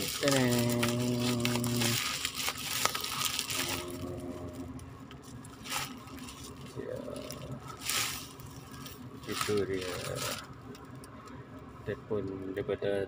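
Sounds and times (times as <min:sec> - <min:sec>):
bubble wrap crinkling: 0:00.0 - 0:10.8.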